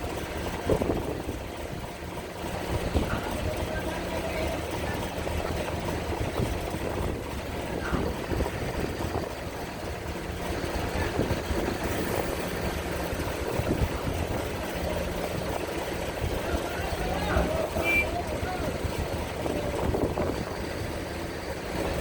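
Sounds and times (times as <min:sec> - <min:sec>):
ship engines humming: 0:00.0 - 0:22.0
wind buffeting microphone: 0:00.2 - 0:03.9, 0:04.6 - 0:16.7, 0:17.3 - 0:22.0.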